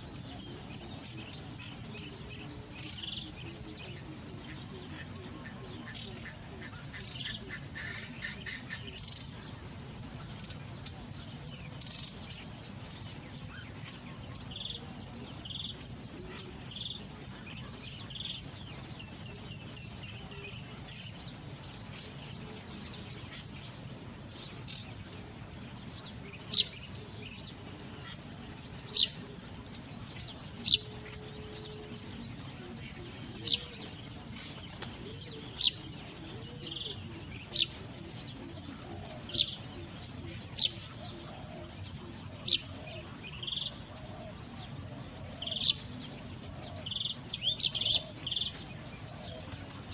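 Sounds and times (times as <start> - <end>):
low outdoor hum: 0.0 - 49.9
wild birds calling: 0.0 - 49.9.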